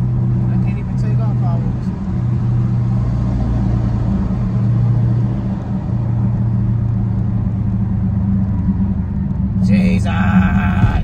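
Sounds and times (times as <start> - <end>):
car engine droning from inside cabin: 0.0 - 11.0.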